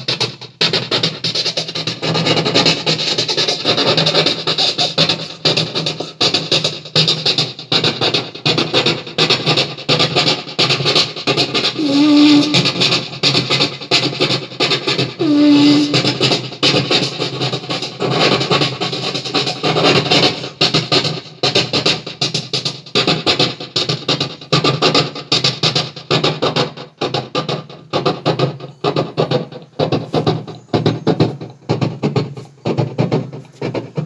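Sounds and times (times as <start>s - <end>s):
man imitating a steam locomotive: 0.0s - 25.6s, 28.4s - 34.0s.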